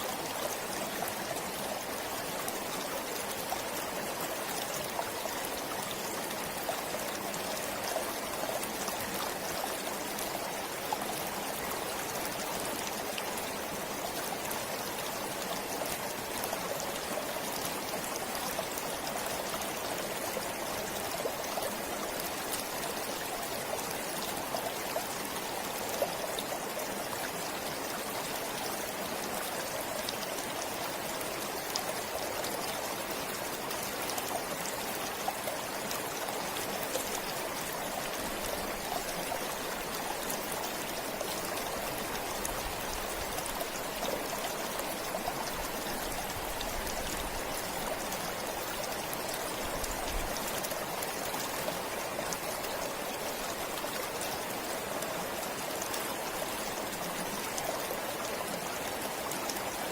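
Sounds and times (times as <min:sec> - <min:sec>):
stream flowing: 0:00.0 - 0:59.9
water trickling and splashing: 0:00.0 - 0:59.9.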